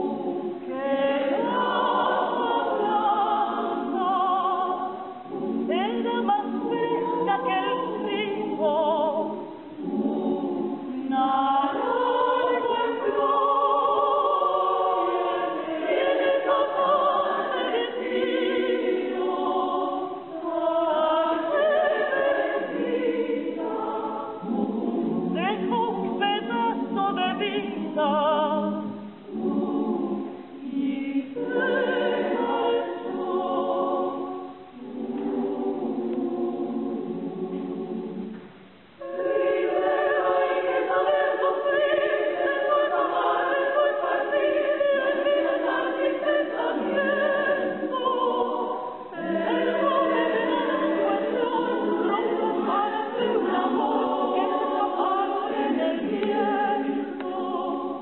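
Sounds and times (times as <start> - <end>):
women's choir singing: 0.0 - 58.0.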